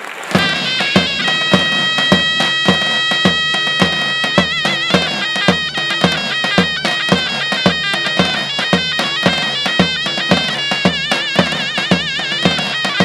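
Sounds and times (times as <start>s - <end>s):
bass drum beats: 0.3s - 13.0s
shrill reed melody: 0.3s - 13.0s.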